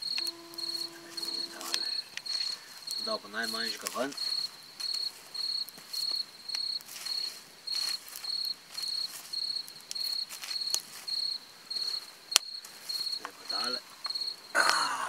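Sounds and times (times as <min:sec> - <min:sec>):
campfire crackling: 0:00.0 - 0:14.8
cricket chirping: 0:00.0 - 0:15.0.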